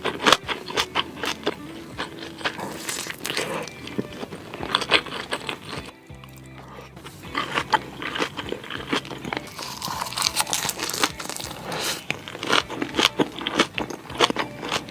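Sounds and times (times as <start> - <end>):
crunchy bites and chewing: 0.0 - 14.9.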